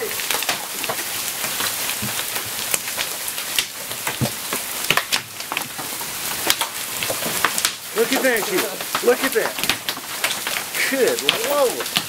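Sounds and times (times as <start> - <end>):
hail and rain hissing: 0.0 - 12.0
hailstones clicking on wood: 0.0 - 12.0.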